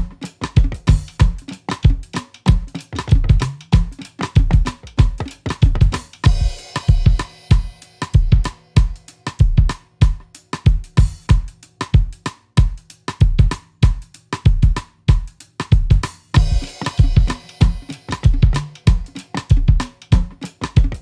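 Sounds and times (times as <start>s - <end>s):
drum kit beat: 0.0s - 21.0s.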